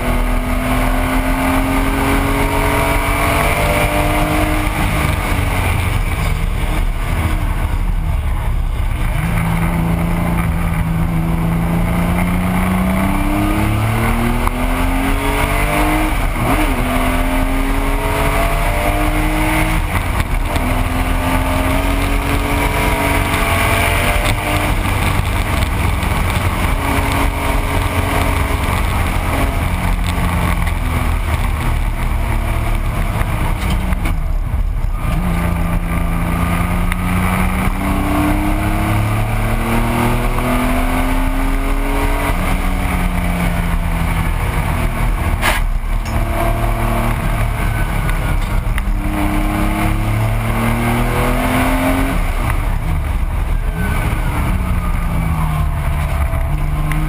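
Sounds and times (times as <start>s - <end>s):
car engine revving: 0.0s - 57.0s
road and wind rumble: 0.0s - 57.0s.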